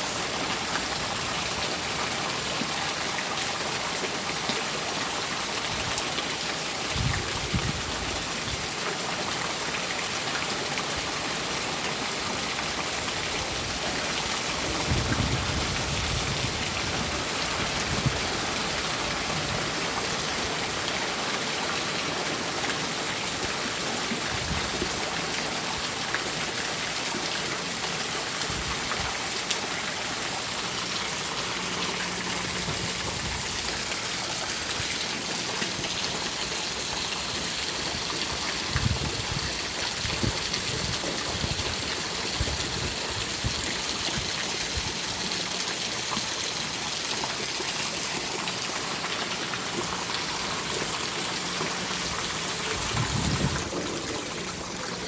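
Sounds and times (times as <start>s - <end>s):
heavy rain pattering: 0.2s - 44.0s, 47.4s - 55.0s.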